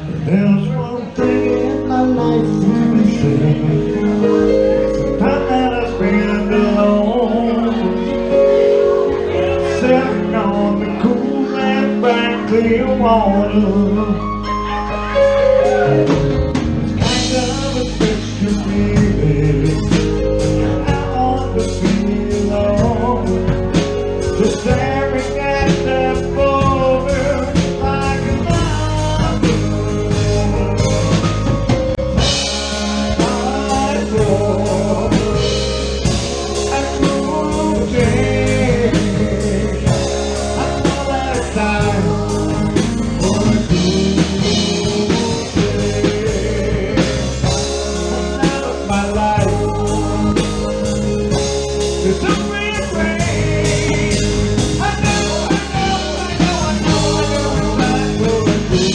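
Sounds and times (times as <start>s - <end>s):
drum kit: 0.0s - 58.9s
guitar: 0.0s - 58.9s
live rock band playing: 0.0s - 58.9s
person singing: 0.0s - 58.9s.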